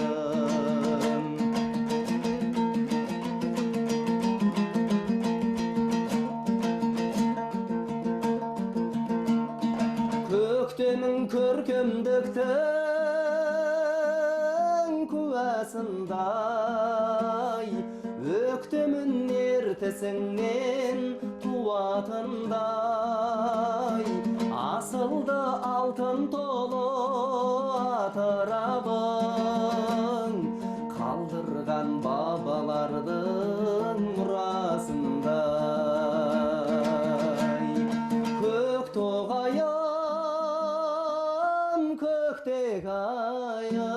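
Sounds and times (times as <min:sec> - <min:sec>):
person singing with vibrato: 0:00.0 - 0:07.2, 0:09.5 - 0:43.9
plucked strings: 0:00.0 - 0:43.9.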